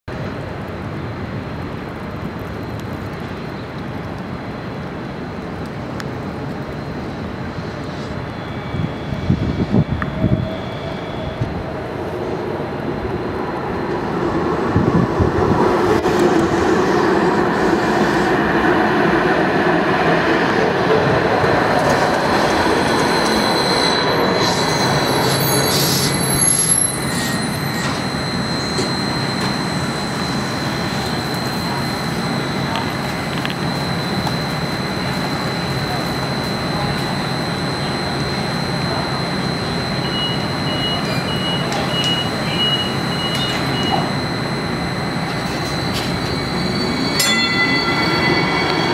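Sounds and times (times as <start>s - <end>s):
light rail car running: 0.1s - 48.9s
high whine and wheel squeal: 6.7s - 48.9s.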